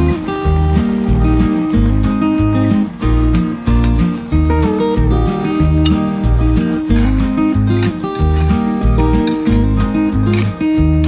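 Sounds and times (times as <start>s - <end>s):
bass beat: 0.0s - 11.0s
guitar: 0.0s - 11.0s.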